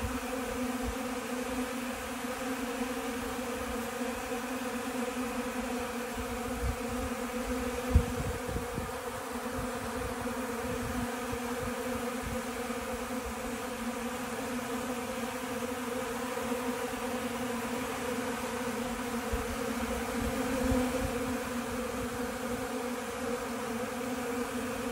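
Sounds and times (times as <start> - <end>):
bees buzzing: 0.0 - 24.9.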